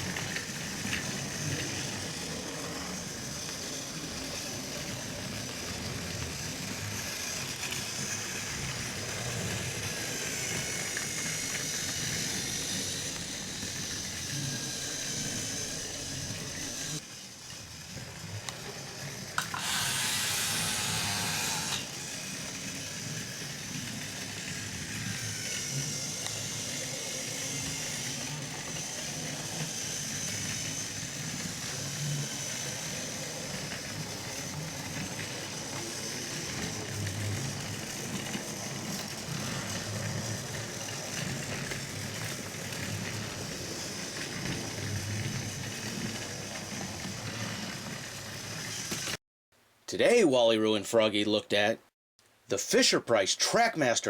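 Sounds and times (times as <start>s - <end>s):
toy train motor whirring: 0.0s - 49.2s.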